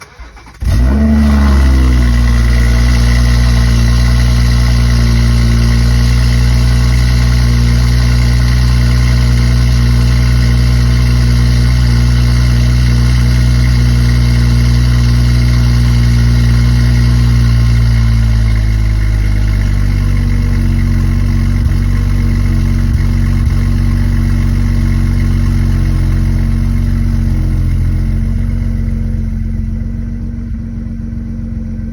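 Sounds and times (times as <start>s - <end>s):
car engine cold start and idle: 0.0s - 31.9s.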